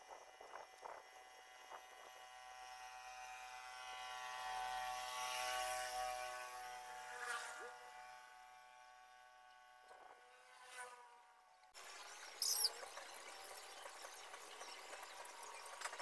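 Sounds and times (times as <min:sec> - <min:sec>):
faint machine hum: 0:00.0 - 0:16.0.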